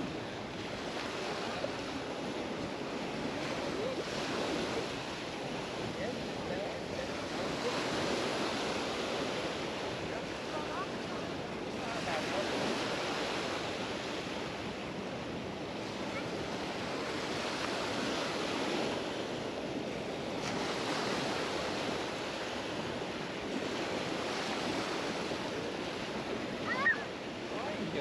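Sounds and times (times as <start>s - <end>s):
sea waves washing onto beach: 0.0s - 28.0s.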